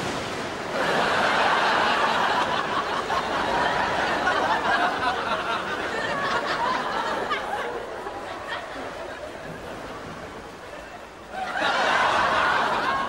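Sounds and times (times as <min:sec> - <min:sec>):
audience laughter: 0:00.7 - 0:13.0.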